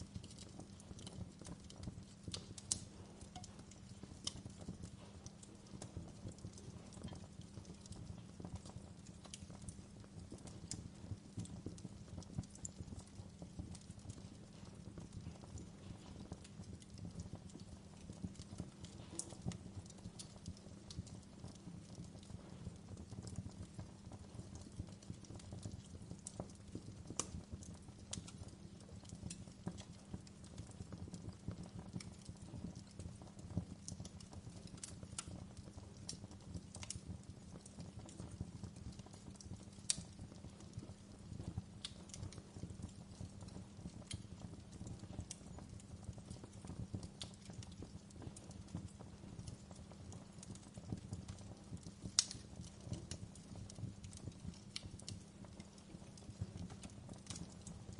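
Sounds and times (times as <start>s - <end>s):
burning wood popping and snapping: 0.0s - 57.9s
low rumble of fire: 0.0s - 57.9s.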